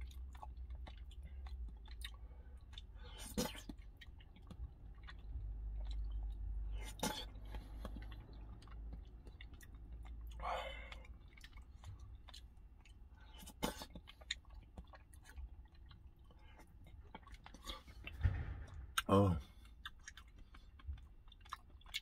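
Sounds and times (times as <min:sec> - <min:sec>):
chewing and mouth noises: 0:00.0 - 0:22.0.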